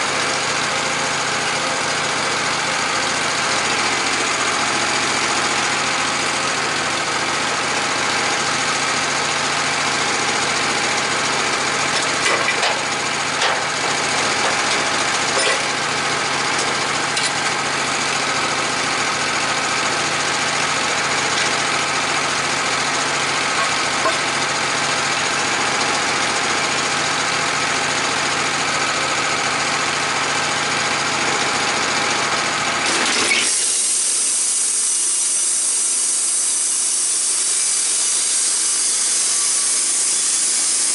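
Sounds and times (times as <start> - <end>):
sawmill engine running under load: 0.0 - 40.9.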